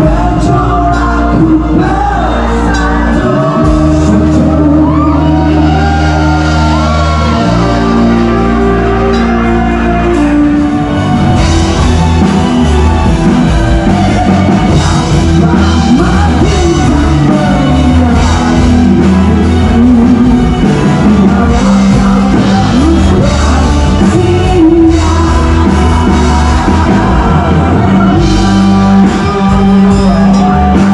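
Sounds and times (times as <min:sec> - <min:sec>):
lead singer singing: 0:00.0 - 0:30.9
live rock band playing: 0:00.0 - 0:30.9.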